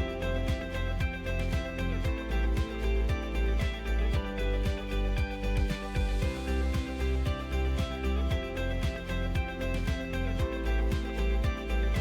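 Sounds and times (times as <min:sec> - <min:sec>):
bass drum beat: 0:00.0 - 0:12.0.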